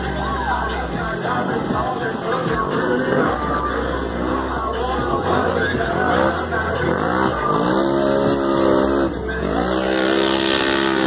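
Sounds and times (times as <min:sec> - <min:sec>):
engine revving hard: 0:00.8 - 0:11.0.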